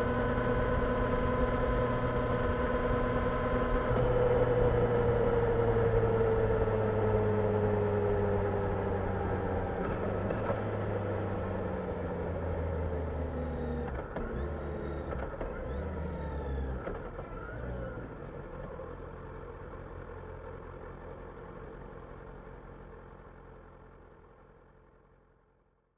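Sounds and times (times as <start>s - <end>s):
motorcycle engine at low revs: 0.0s - 25.4s.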